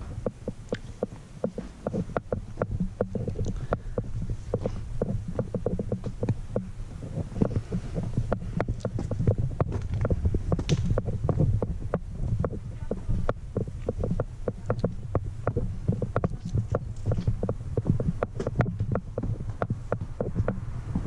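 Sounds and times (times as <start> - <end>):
low muffled rumble: 0.0 - 21.0.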